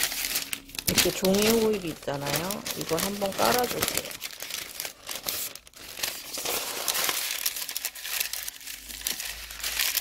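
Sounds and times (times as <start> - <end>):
parchment paper crinkling: 0.0 - 10.0.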